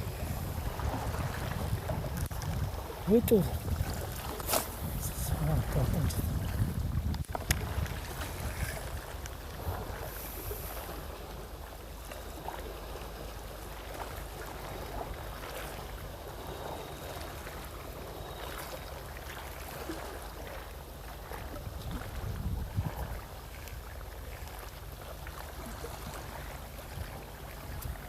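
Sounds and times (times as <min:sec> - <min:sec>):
sea water at shoreline: 0:00.0 - 0:28.0
wind: 0:00.0 - 0:28.0.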